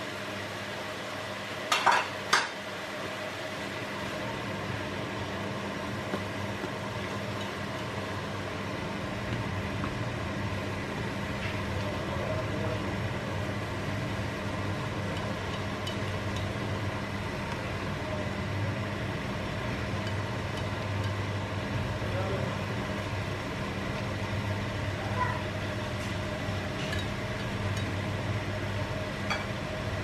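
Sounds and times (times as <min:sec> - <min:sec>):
steady low hum: 0:02.7 - 0:30.0.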